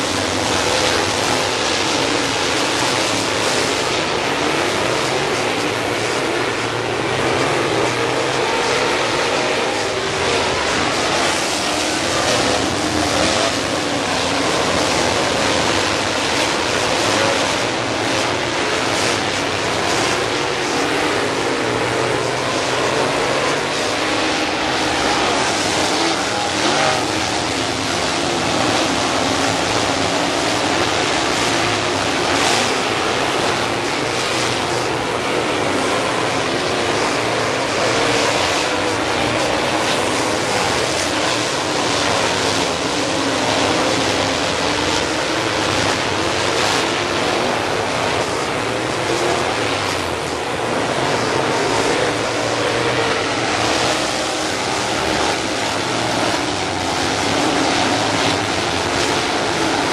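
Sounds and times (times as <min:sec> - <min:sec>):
race car engines racing: 0:00.0 - 0:59.9.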